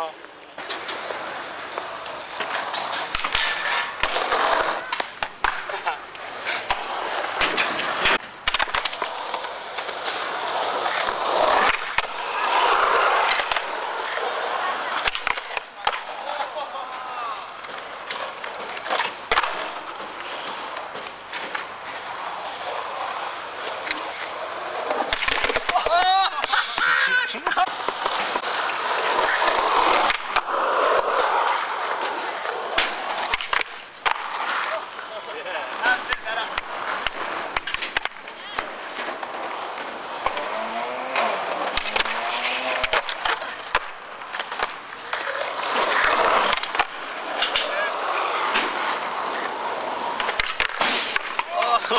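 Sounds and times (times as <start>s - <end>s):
skateboard clacks: 0.0s - 51.9s
skateboard wheels rolling on concrete: 0.0s - 51.9s.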